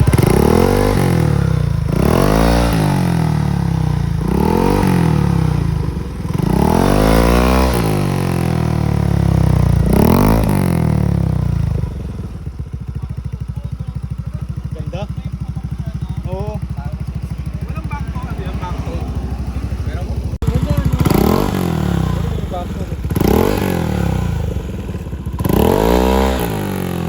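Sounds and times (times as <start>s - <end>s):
scooter engine revving and idling: 0.0s - 27.0s.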